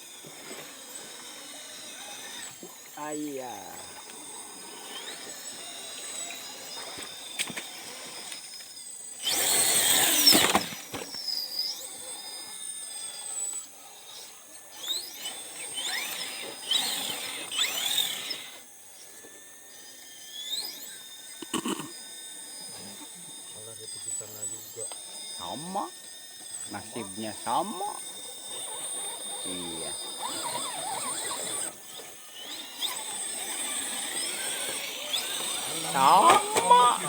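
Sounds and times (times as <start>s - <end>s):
electric motor whine: 0.0s - 37.0s.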